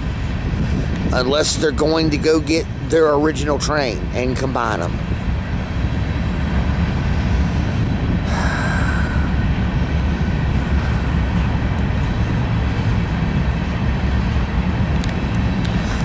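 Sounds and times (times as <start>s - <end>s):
high whine: 0.0s - 16.0s
train wheels rumbling on rail: 0.0s - 16.0s.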